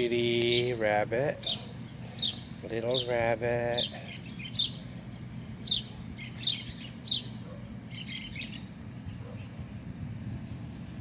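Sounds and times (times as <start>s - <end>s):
low background hum: 0.0s - 11.0s
small bird chirping: 0.0s - 11.0s.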